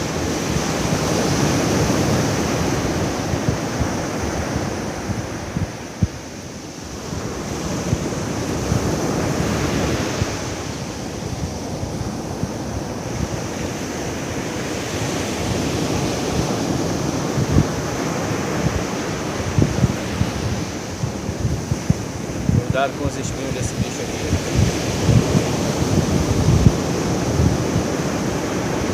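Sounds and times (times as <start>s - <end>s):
ocean surf washing: 0.0s - 28.9s
wind buffeting microphone: 0.0s - 28.9s.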